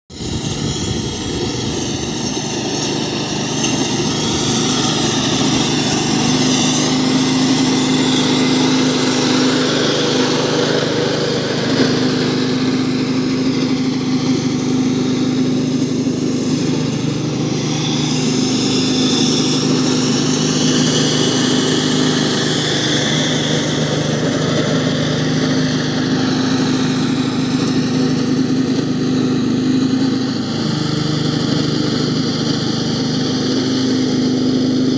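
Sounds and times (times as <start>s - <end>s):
lawn mower engine running: 0.1s - 34.9s.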